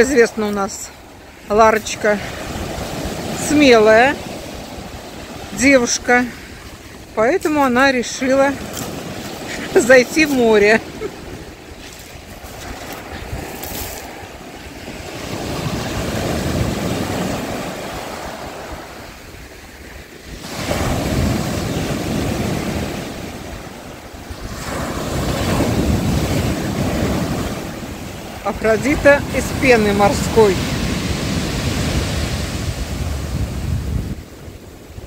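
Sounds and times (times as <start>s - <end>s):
waves breaking on shore: 0.0s - 35.0s.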